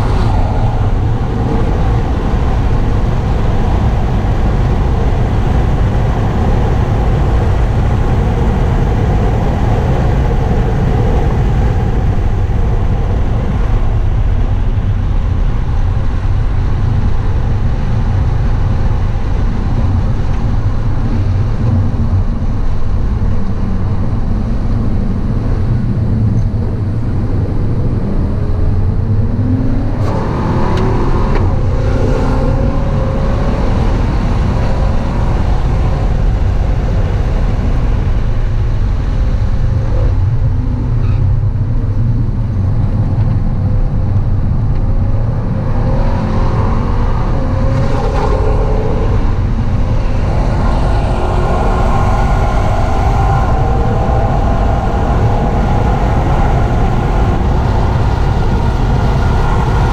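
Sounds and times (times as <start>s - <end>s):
car engine at speed: 0.0s - 59.9s
road and wind noise: 0.0s - 59.9s.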